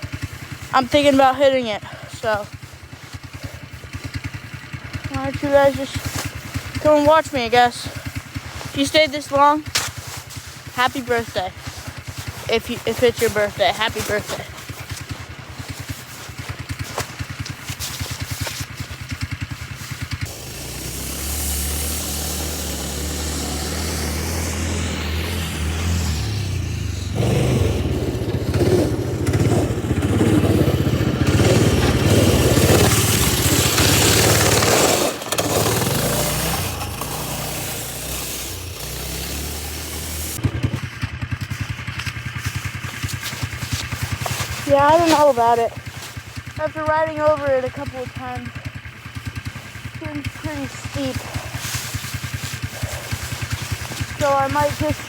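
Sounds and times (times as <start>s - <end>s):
snowmobile engine: 0.0s - 55.0s.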